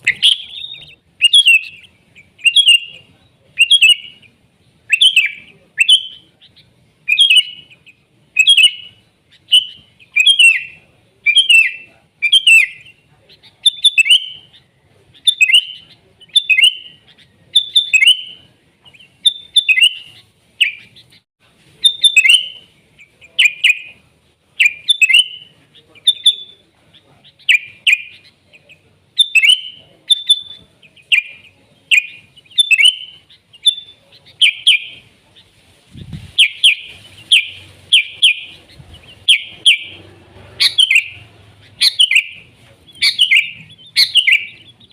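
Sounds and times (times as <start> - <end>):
bulbul singing: 0.0 - 44.9.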